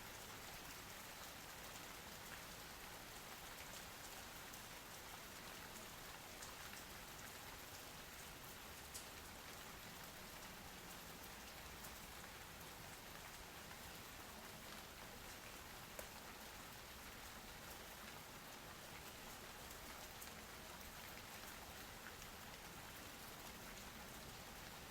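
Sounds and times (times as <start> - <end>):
rain falling: 0.1 - 24.9.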